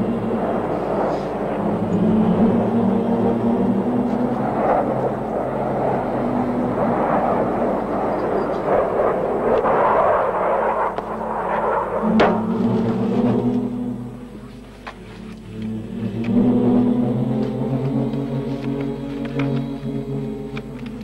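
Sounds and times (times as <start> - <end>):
low held orchestral notes: 0.0 - 21.0
steady rushing noise: 0.0 - 21.0.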